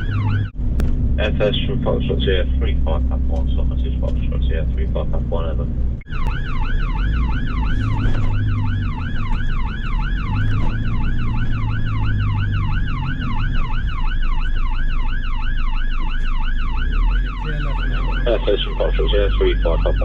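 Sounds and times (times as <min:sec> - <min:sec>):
fire engine siren wailing: 0:00.0 - 0:20.0
vehicle engine rumble: 0:00.0 - 0:20.0.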